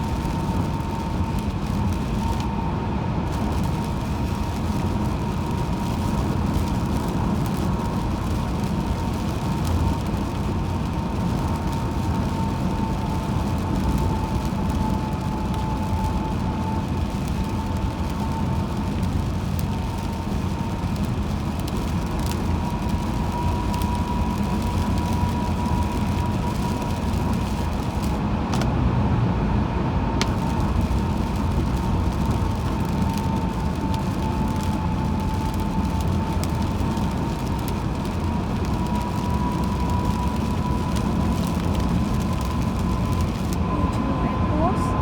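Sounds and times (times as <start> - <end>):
thin steady whine: 0.0 - 28.7, 29.6 - 45.0
road and tyre rumble: 0.0 - 45.0.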